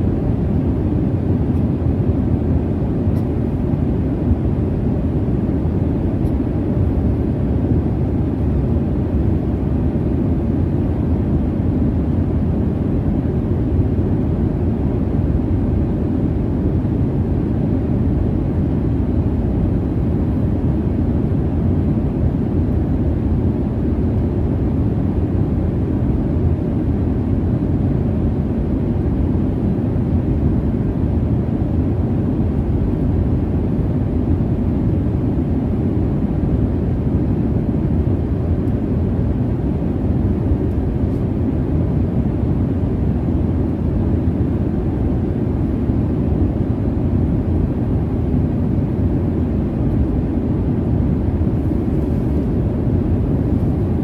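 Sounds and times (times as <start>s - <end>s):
airliner cabin drone: 0.0s - 54.0s.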